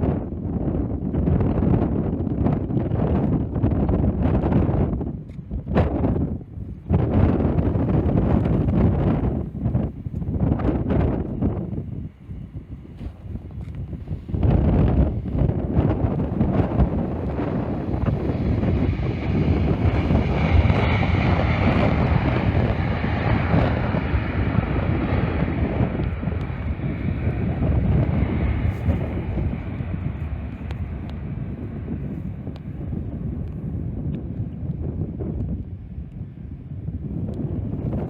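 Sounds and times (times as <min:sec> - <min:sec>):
wind noise on microphone: 0:00.0 - 0:38.0
jet engines passing: 0:06.0 - 0:38.0.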